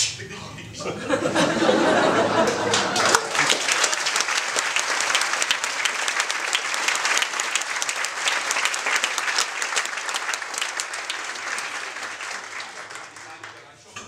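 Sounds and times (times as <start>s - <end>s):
audience applauding: 1.1s - 13.8s.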